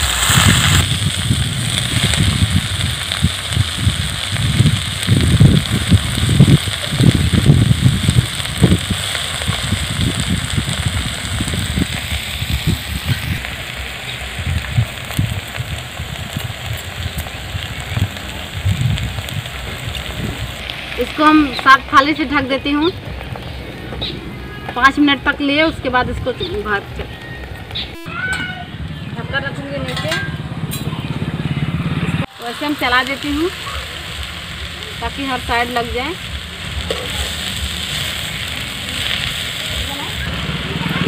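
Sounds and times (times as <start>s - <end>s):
leaves sizzling in hot oil: 0.0s - 30.8s, 32.2s - 41.0s
fire crackling: 0.0s - 41.0s
wind on microphone: 0.0s - 41.0s.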